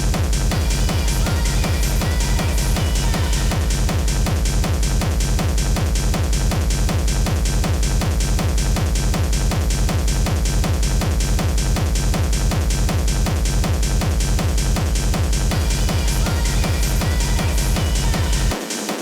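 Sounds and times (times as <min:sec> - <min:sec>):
techno music: 0:00.0 - 0:19.0.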